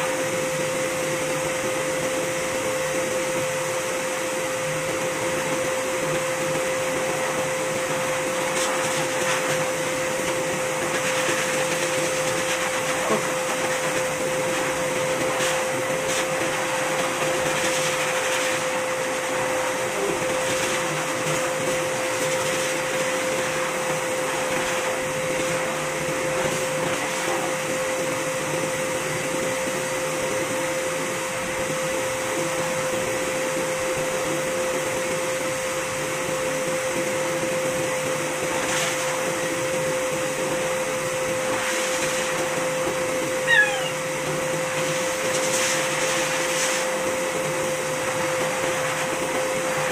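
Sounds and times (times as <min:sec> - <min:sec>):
grooming blower whine and rushing air: 0:00.0 - 0:49.9.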